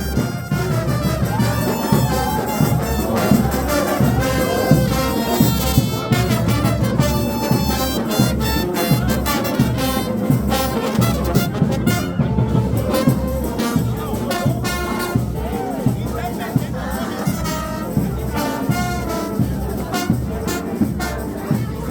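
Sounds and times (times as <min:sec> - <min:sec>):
percussion beat: 0:00.0 - 0:21.9
trumpets and trombones playing: 0:00.0 - 0:21.9.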